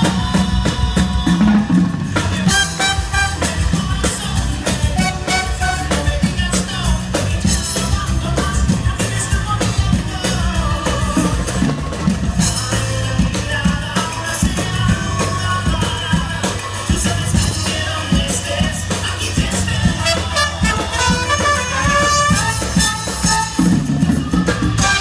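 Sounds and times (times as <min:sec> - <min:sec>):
driving drum beat: 0:00.0 - 0:25.0
upbeat band music: 0:00.0 - 0:25.0.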